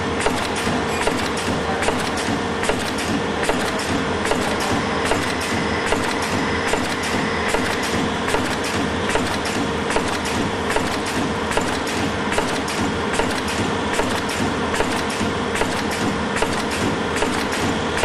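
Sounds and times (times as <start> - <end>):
packing machine clattering: 0.2 - 18.0.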